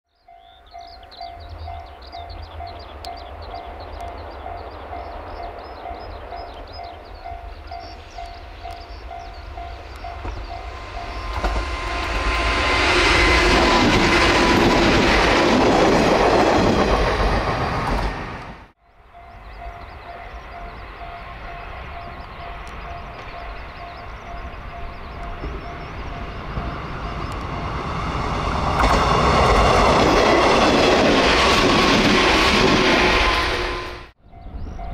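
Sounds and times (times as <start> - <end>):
electric train passing: 0.2 - 34.9.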